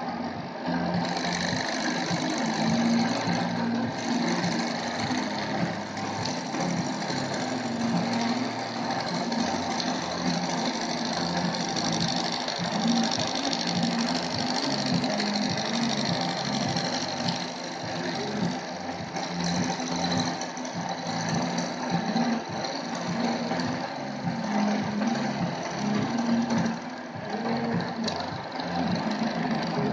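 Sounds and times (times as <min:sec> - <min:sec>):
milling machine cutting metal: 0:00.0 - 0:29.9.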